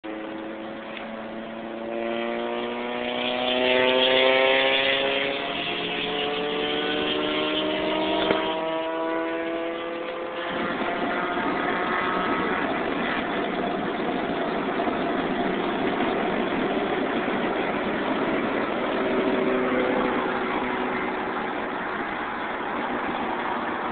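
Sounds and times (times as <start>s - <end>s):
car engine revving: 0.1s - 23.9s.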